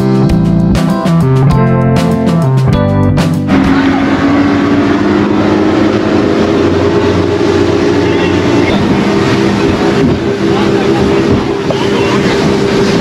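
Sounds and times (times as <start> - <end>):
speedboat engine droning: 1.2 - 13.0
water rushing along hull: 1.8 - 13.0.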